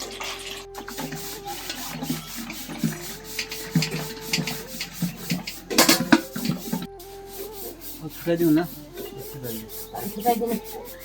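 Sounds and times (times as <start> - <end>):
rubbing or scraping strokes: 0.6 - 11.0.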